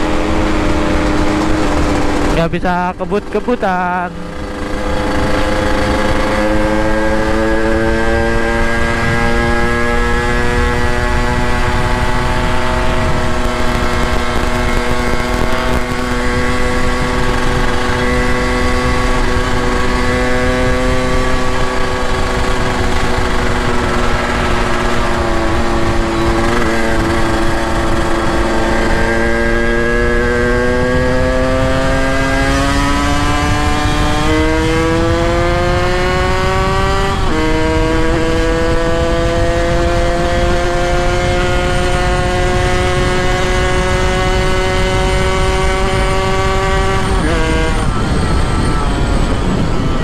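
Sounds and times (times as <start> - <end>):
two-stroke motorcycle engine: 0.0 - 50.0.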